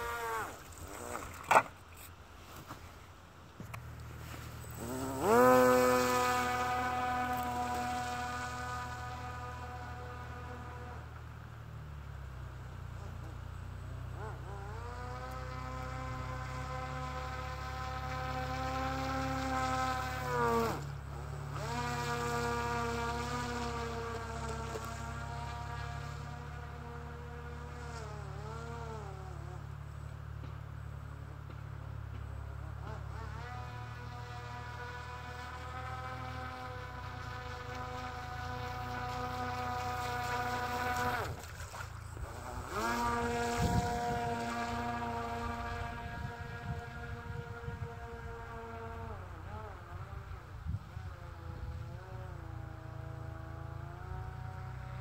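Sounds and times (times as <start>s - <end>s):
fan boat motor and propeller: 0.0s - 55.0s.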